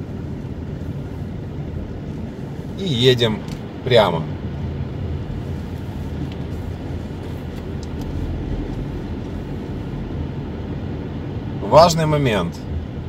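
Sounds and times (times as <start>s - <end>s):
car engine hum: 0.0s - 13.0s
road and tyre noise: 0.0s - 13.0s.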